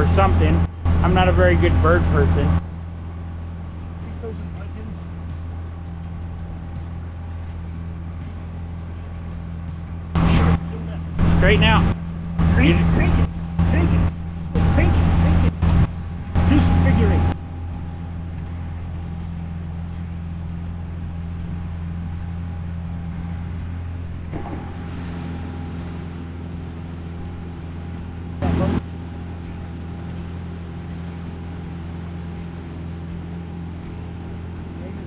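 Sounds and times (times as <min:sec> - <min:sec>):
motorboat engine droning: 0:00.0 - 0:35.0
rushing air and water: 0:00.0 - 0:35.0.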